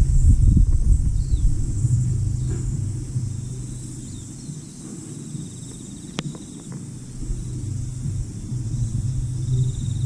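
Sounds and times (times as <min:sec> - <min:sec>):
faint high steady hum: 0:00.0 - 0:10.0
low engine-like rumble: 0:00.0 - 0:10.0.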